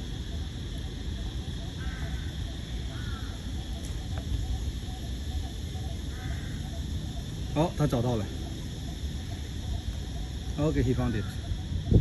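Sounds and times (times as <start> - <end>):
bird calls: 0.0 - 12.0
high insect drone: 0.0 - 12.0.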